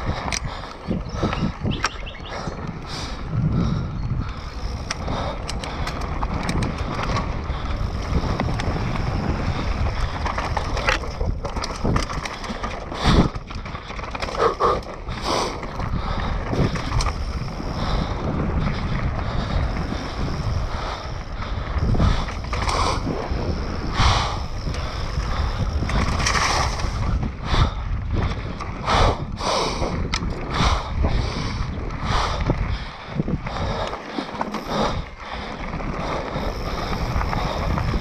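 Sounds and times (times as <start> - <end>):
bike rattling and knocking: 0.0 - 38.0
bike tyres rolling over stones: 0.0 - 38.0
wind buffeting microphone: 0.0 - 38.0.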